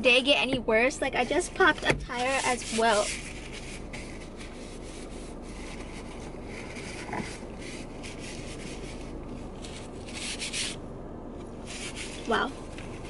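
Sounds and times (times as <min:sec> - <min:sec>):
paper napkin rubbing on skin: 0:01.2 - 0:10.8, 0:11.6 - 0:13.0.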